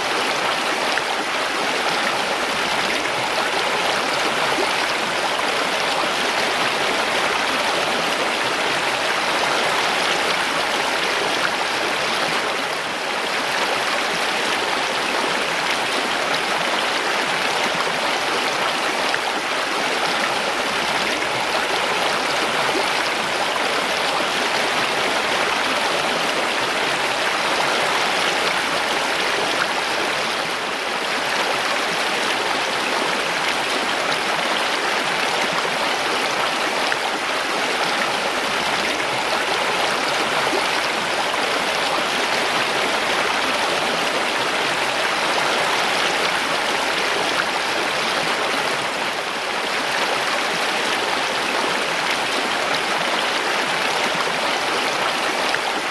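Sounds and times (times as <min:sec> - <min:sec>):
water rushing over rocks: 0:00.0 - 0:55.9.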